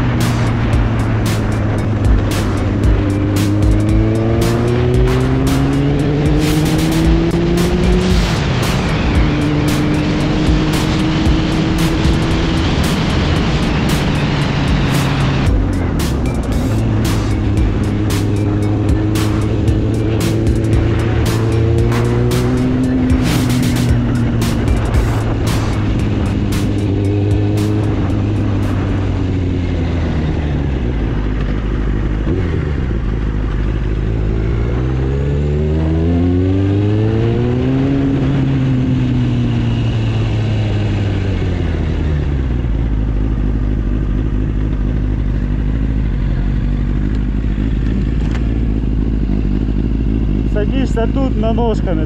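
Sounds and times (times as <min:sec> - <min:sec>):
motorcycle engine revving and idling: 0:00.0 - 0:52.0.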